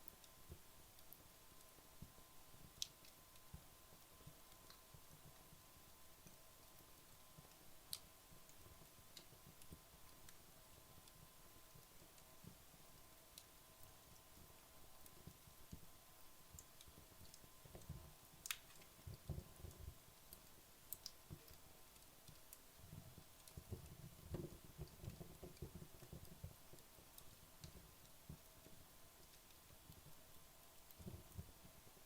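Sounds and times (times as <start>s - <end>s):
fire crackles and pops: 0.0s - 32.0s
soft flutter of flames: 0.0s - 32.0s.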